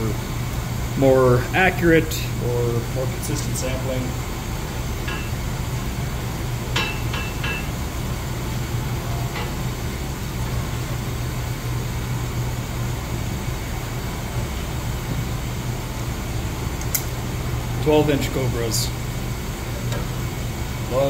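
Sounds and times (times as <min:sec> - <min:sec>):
machinery hum and rumble: 0:00.0 - 0:21.0.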